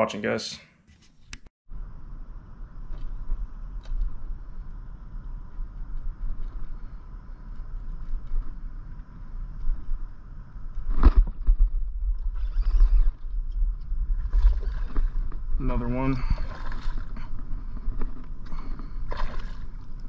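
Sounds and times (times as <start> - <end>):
wind and water rumble: 1.7 - 20.0.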